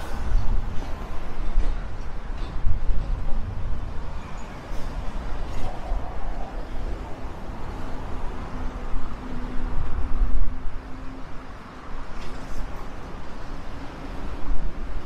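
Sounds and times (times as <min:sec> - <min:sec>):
bus and cars driving past: 0:00.0 - 0:15.0
road noise rumble: 0:00.0 - 0:15.0.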